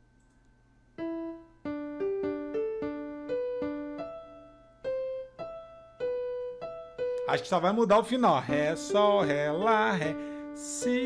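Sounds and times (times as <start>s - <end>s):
electronic keyboard piano melody: 0.2s - 11.0s.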